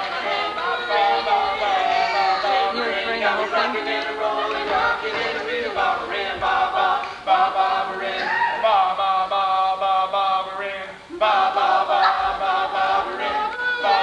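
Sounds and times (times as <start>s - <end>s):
male voices singing together: 0.0s - 14.0s.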